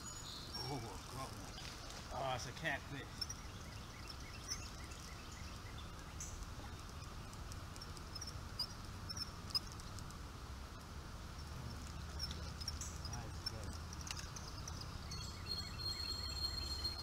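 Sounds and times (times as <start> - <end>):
faint ticks: 0.5 - 17.0.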